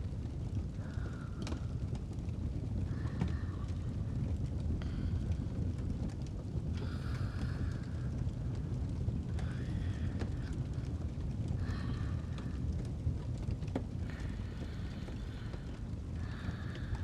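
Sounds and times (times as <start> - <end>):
fire crackling and popping: 0.0 - 17.0
slow breathing: 0.6 - 17.0.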